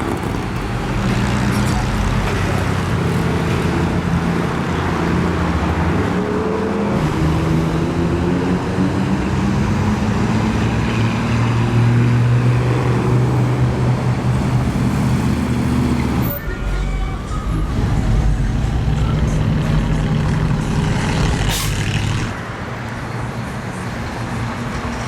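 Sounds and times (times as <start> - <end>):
car engines revving: 0.0 - 22.6
road noise: 0.0 - 25.0.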